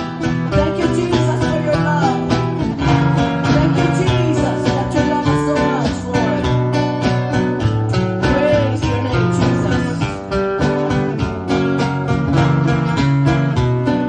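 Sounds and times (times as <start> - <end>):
strummed acoustic guitar: 0.0 - 14.0
sustained bass and chord notes: 0.0 - 14.0.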